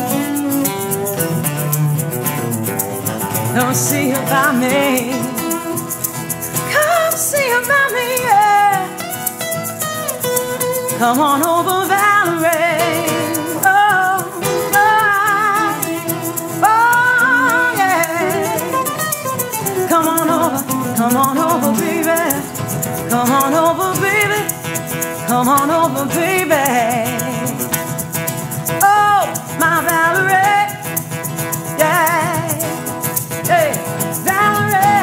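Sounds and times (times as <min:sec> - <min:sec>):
woman singing wordless melody: 0:00.0 - 0:01.2, 0:03.4 - 0:09.1, 0:10.9 - 0:28.0, 0:28.8 - 0:35.0
acoustic guitar strumming: 0:00.0 - 0:35.0
hand shaker rattling: 0:00.0 - 0:35.0.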